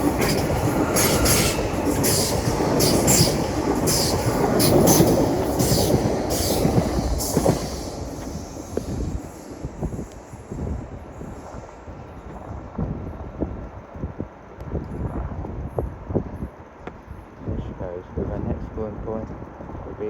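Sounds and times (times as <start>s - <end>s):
train passing at speed: 0.0s - 16.8s.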